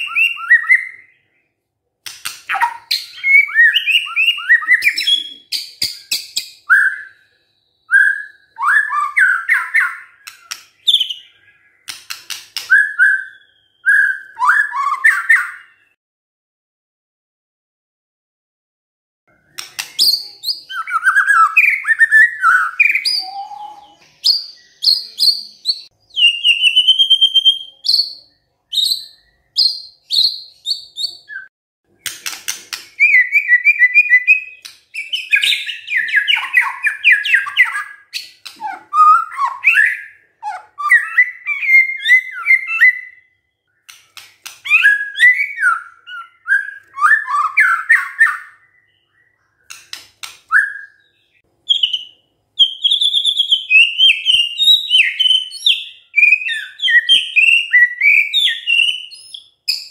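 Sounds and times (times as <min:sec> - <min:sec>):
songbird singing: 0:00.0 - 0:16.0, 0:19.3 - 0:59.9.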